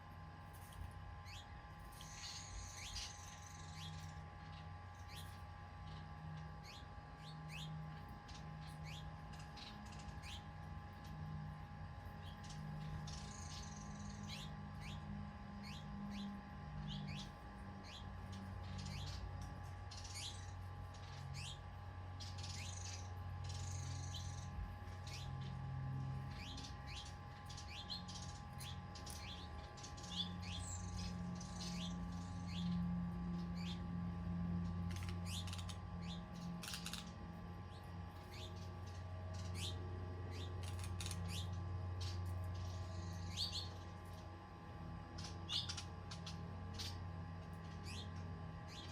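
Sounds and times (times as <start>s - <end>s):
faint whine: 0.0s - 48.9s
low hum: 0.0s - 48.9s
small birds chirping: 0.4s - 48.9s.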